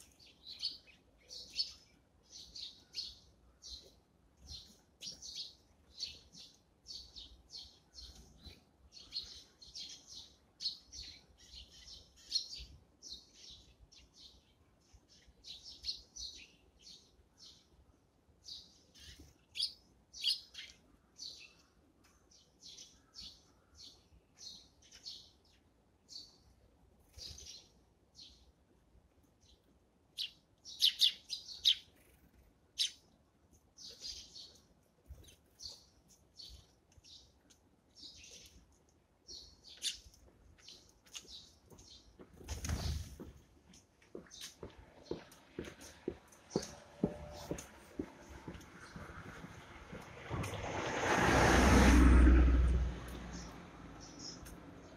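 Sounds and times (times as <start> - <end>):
sparrows chirping: 0.0 - 50.3, 52.7 - 54.9.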